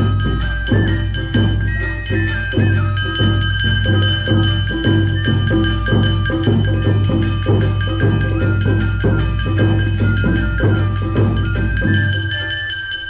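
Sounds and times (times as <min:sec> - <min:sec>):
drums in steady rhythm: 0:00.0 - 0:13.0
melody tones: 0:00.0 - 0:13.0
ringing metal bell: 0:00.0 - 0:13.0.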